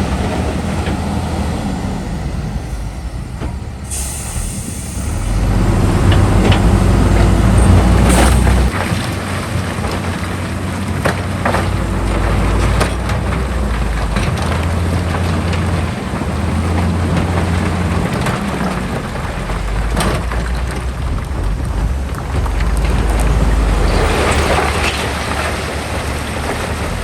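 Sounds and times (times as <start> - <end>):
heavy diesel machinery engine: 0.0 - 27.0
soil and rock clattering: 3.4 - 27.0.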